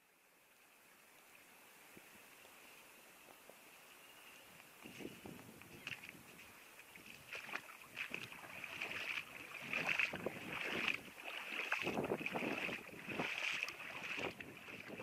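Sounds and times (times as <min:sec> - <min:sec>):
legs wading through stream: 0:00.3 - 0:15.0.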